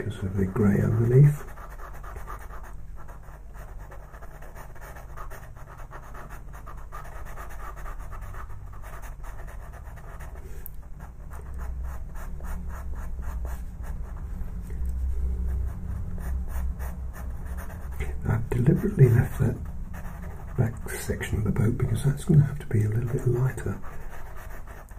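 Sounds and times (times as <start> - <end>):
pastel pencil scratching on paper: 0.0 - 24.9.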